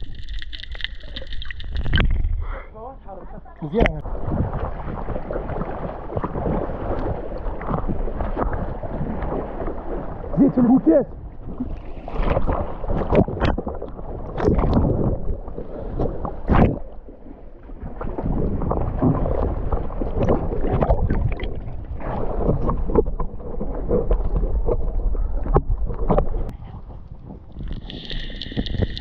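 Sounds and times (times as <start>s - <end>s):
sea water sloshing and splashing: 0.0s - 2.6s, 3.7s - 29.0s.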